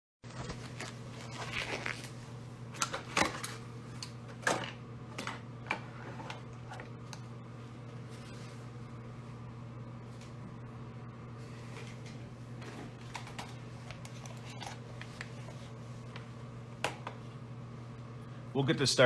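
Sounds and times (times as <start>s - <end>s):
low hum: 0.3s - 18.6s.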